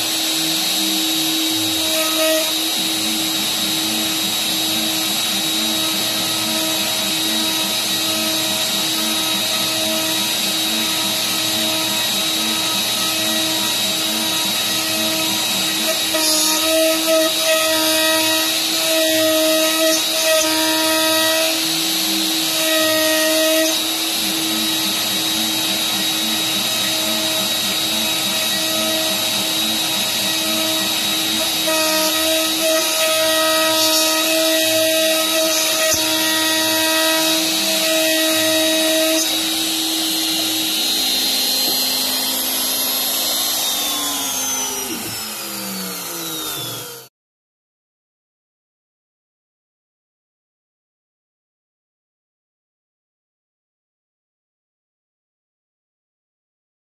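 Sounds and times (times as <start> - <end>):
router spindle whine cutting wood: 0.0 - 47.1.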